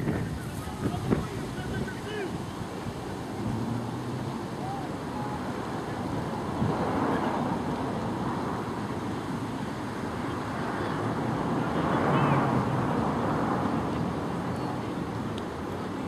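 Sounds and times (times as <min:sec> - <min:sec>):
faint distant voices: 0:00.0 - 0:16.0
wind rumbling on microphone: 0:00.0 - 0:16.0.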